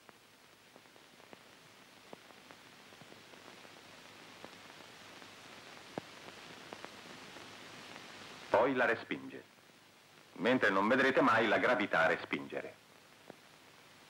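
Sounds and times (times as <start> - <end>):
faint clicks and crackles: 0.0 - 10.7, 12.2 - 14.0
film soundtrack hiss: 0.0 - 14.0.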